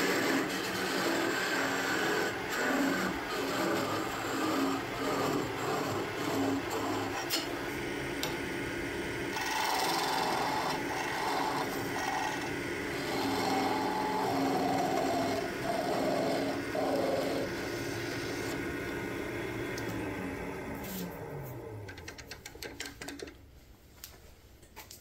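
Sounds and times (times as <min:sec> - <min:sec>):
lathe motor hum: 0:00.0 - 0:22.6.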